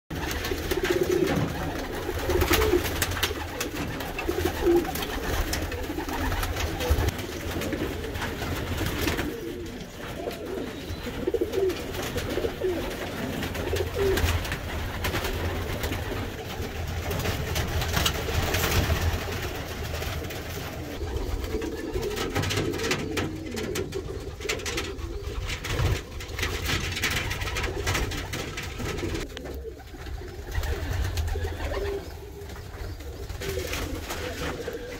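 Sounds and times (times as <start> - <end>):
pigeons cooing: 0.1 - 34.9.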